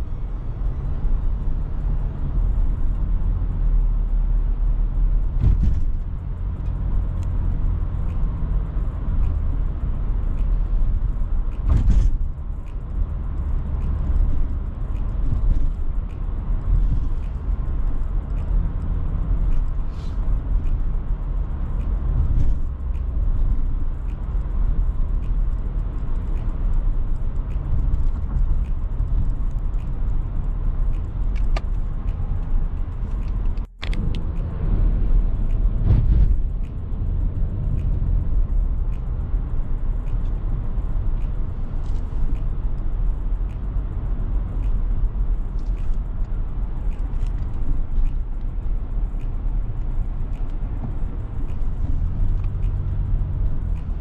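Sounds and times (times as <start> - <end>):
car driving low rumble: 0.0 - 54.0.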